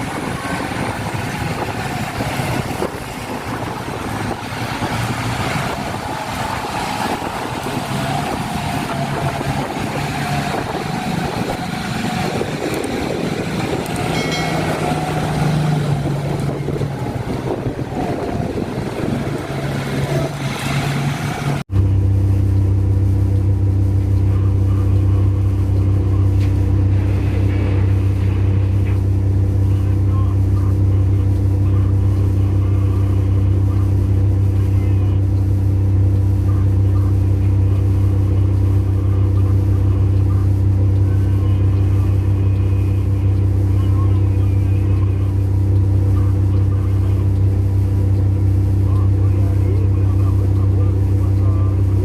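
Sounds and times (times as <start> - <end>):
diesel truck engine: 0.0 - 52.0.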